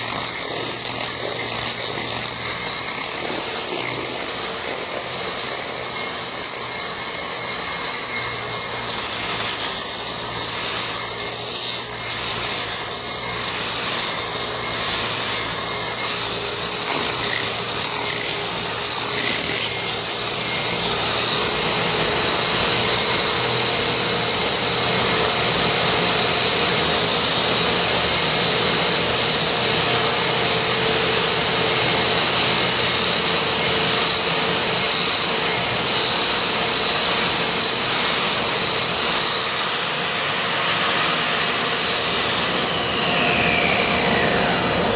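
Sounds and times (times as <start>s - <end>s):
angle grinder grinding concrete: 0.0s - 44.9s
shop vacuum running: 0.0s - 44.9s.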